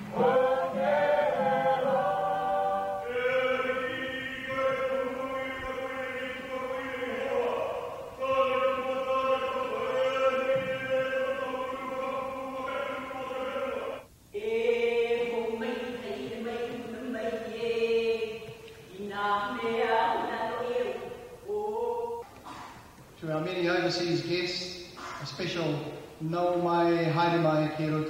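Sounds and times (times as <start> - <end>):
voices chanting held notes: 0.0 - 26.5.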